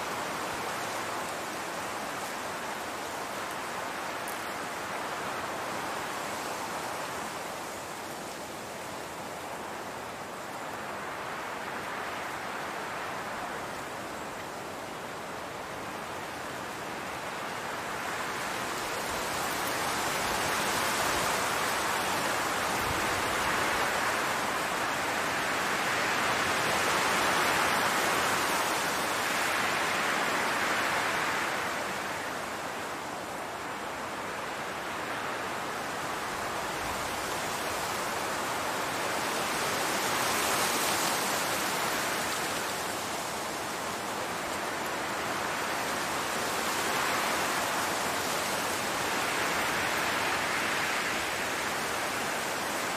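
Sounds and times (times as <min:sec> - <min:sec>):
wind rushing through tall grass: 0:00.0 - 0:52.9.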